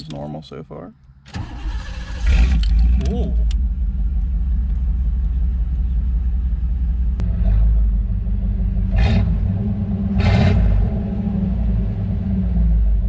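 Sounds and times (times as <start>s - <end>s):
car engine running: 1.4s - 13.0s.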